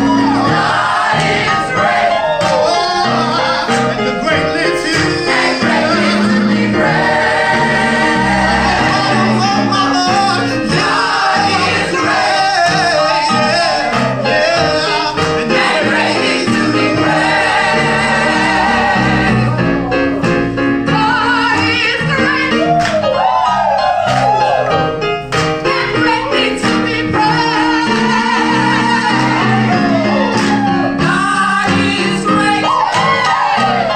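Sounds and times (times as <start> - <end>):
gospel group singing in harmony: 0.0 - 33.9
musical backing: 0.0 - 33.9.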